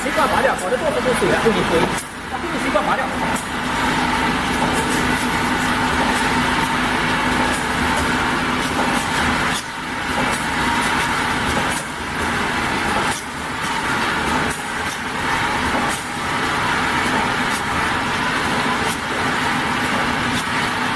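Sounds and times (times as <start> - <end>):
labeling machine humming: 0.0 - 20.9.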